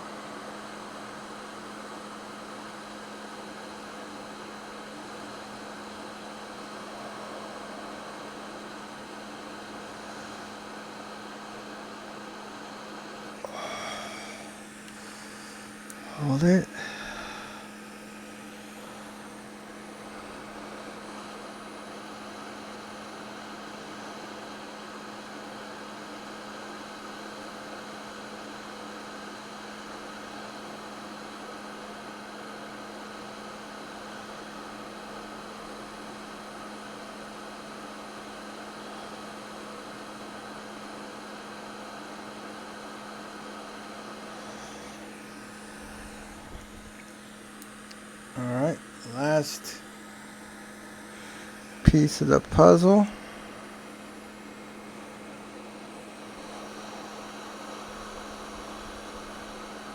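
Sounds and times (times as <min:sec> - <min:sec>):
hot air blower hissing: 0:00.0 - 0:59.9.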